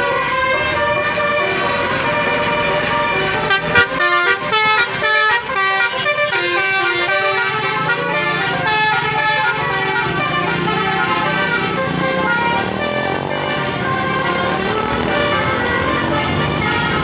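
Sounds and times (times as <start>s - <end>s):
musical air horn melody: 0.0s - 17.0s.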